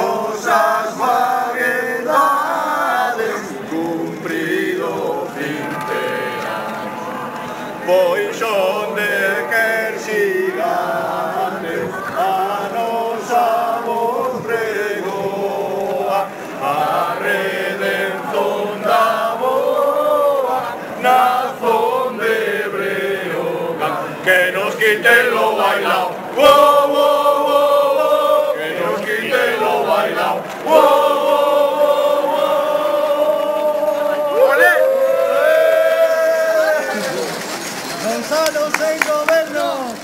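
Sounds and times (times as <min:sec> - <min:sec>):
crowd singing a chant: 0:00.0 - 0:37.8.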